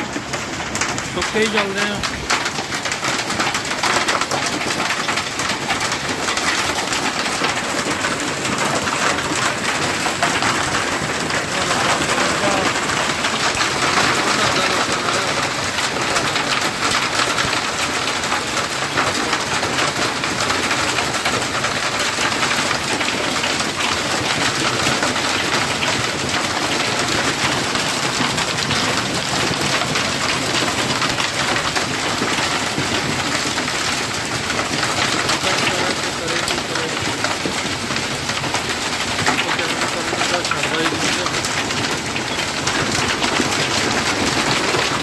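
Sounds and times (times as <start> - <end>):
hail pattering: 0.0 - 45.0.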